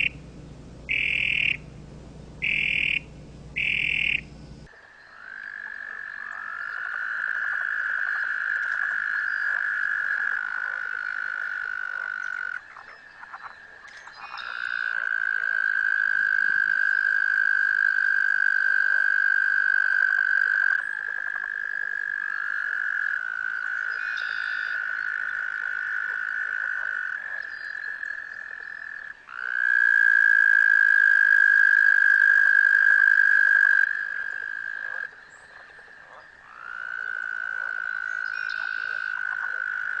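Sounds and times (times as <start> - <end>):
toads trilling: 0.9 - 1.6, 2.4 - 4.4, 5.0 - 40.0.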